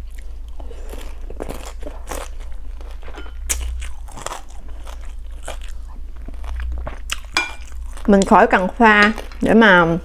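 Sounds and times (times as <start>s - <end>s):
chewing crispy fried cake: 0.0s - 9.6s.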